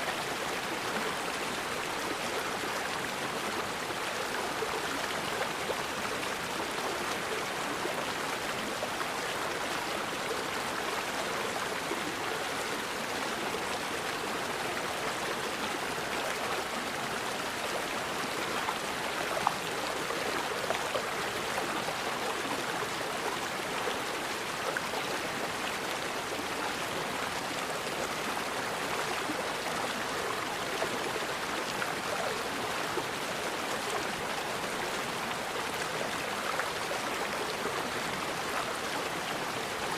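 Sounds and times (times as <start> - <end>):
river flowing over rocks: 0.1 - 39.9.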